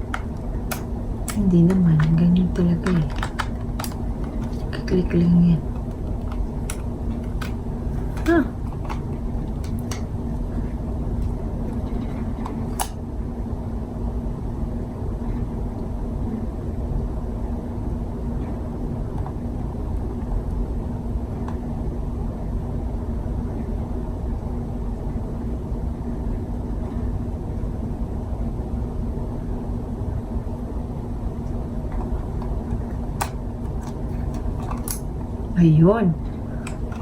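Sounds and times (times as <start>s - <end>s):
mechanical hum: 0.0s - 37.0s.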